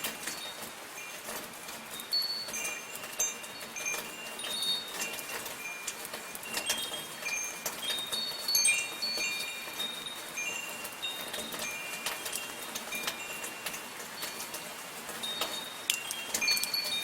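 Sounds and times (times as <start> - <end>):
light rain pattering: 0.0 - 17.0
metal wind chimes ringing: 0.0 - 17.0.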